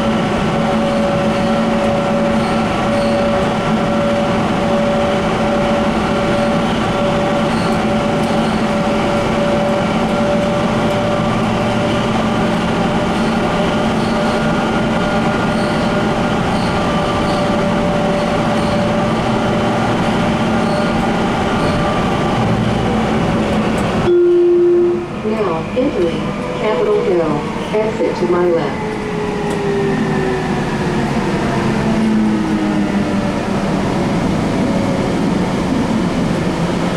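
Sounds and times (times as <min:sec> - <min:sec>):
wheels rumbling on rail: 0:00.0 - 0:36.9.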